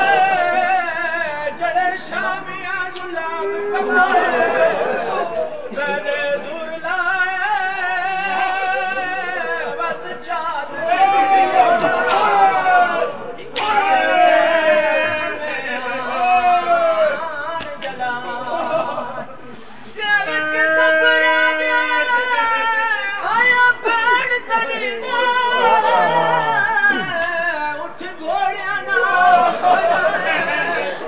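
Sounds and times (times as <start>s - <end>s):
men singing a mourning lament: 0.0s - 31.0s.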